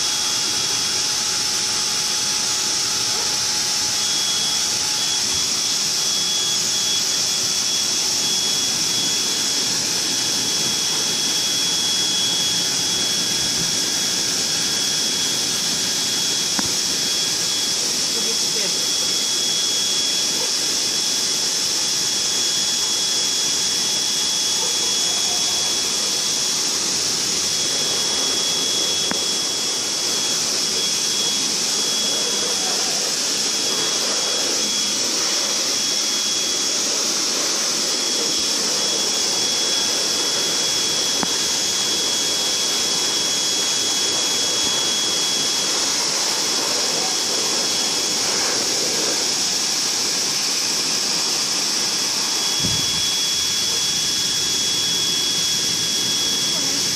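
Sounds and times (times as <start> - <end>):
blow dryer whining: 0.0 - 56.9.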